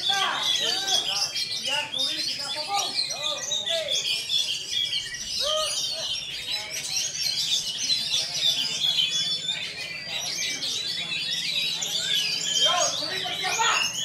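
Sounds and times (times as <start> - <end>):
birds singing whistles and trills: 0.0 - 14.0.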